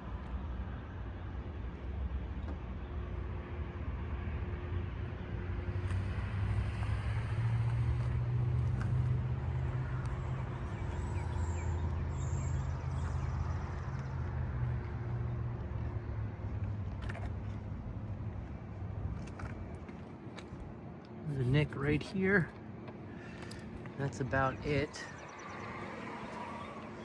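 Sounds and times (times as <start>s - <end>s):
vehicle engine humming: 1.7s - 27.0s.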